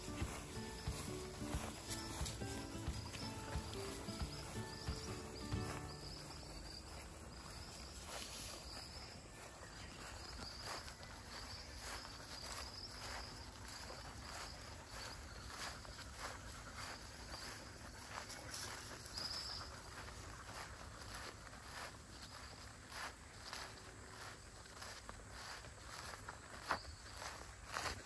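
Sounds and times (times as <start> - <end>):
footsteps through grass: 0.0 - 28.0
insects chirping: 0.0 - 28.0.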